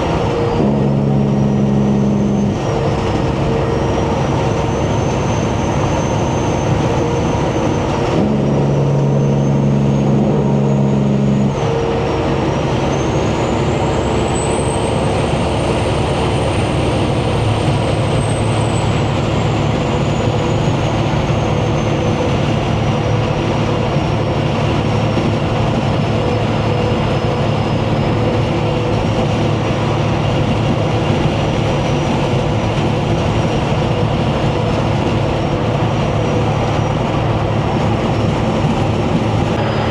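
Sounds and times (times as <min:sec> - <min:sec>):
truck engine and road noise: 0:00.0 - 0:39.9
thin high whine: 0:00.1 - 0:39.9.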